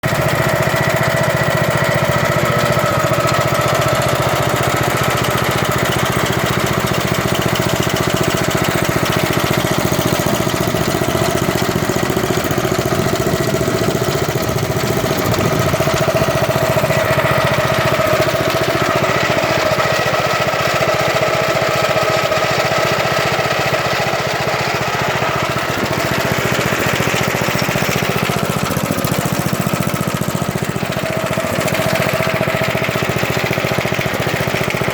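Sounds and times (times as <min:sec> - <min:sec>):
garden tractor engine running: 0:00.0 - 0:34.9.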